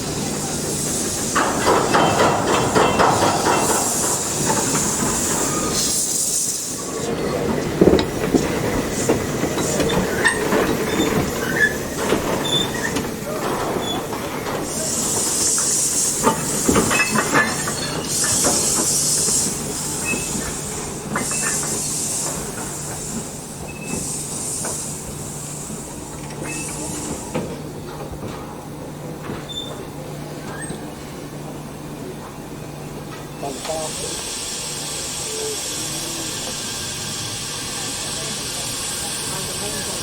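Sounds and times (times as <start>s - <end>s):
steam hissing: 0.0s - 27.8s, 33.2s - 40.0s
steam locomotive chugging: 0.0s - 40.0s
train clanks and squeaks: 0.0s - 40.0s.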